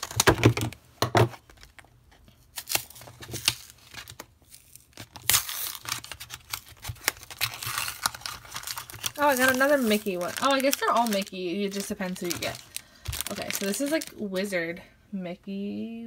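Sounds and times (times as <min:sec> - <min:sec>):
cardboard tearing and crinkling: 0:00.0 - 0:14.2.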